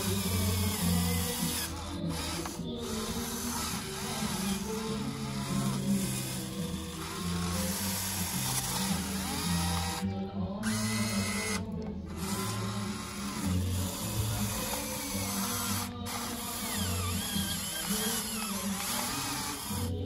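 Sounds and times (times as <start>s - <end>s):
background music: 0.0s - 20.0s
small electric motor whirring: 0.0s - 20.0s.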